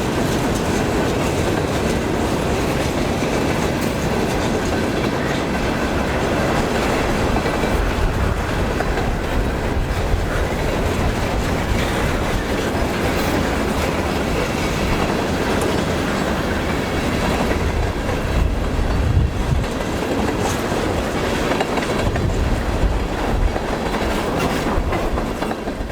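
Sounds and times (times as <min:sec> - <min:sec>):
low train rumble: 0:00.0 - 0:25.9
train wheels clacking over rail joints: 0:00.0 - 0:25.9.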